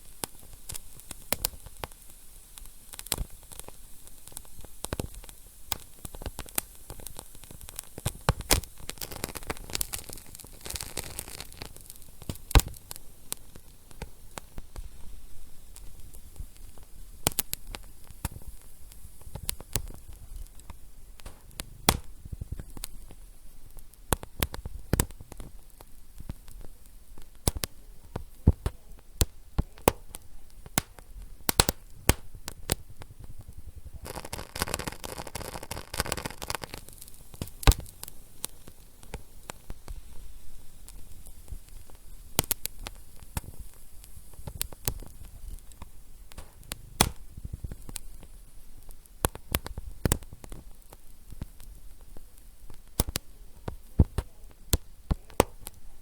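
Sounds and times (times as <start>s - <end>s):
steady hiss: 0.0s - 56.0s
wood fire crackling: 0.0s - 56.0s.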